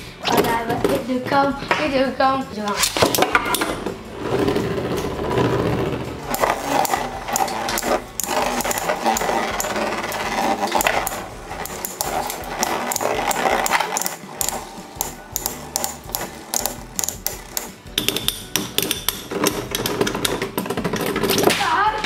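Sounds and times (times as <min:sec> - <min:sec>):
metal spinning tops whirring: 0:02.6 - 0:21.9.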